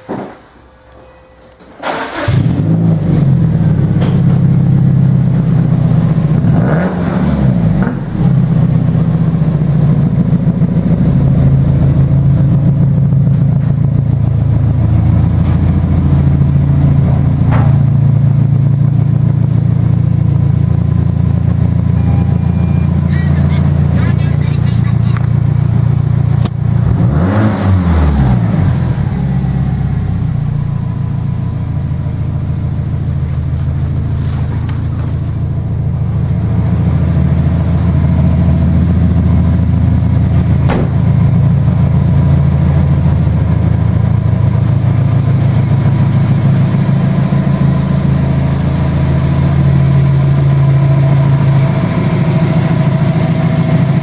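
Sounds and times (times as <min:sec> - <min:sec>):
car engine revving and idling: 0:02.0 - 0:54.0.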